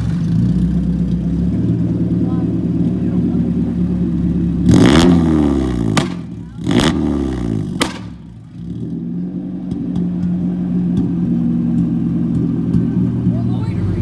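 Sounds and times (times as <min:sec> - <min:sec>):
car engine revving: 0:00.0 - 0:14.0
exhaust crack: 0:00.0 - 0:14.0.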